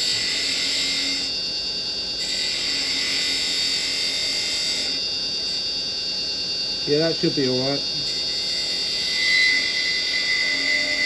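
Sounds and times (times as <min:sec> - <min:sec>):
wood lathe motor whine: 0:00.0 - 0:11.0.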